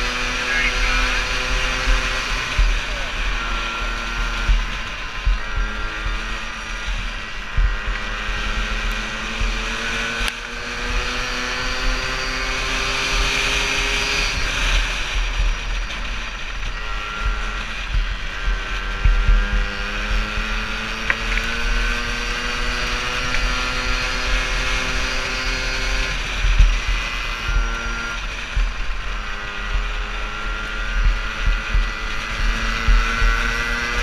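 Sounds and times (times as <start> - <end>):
small two-stroke engine revving: 0.0 - 34.0
wind rumble on microphone: 0.0 - 34.0.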